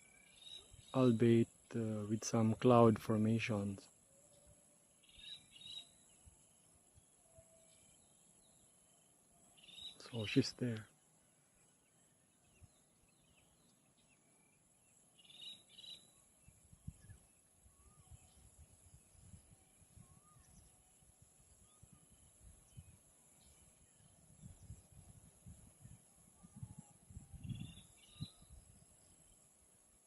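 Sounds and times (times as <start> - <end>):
bird chirps: 0.0 - 1.8, 4.2 - 29.6
high insect hum: 0.0 - 30.0.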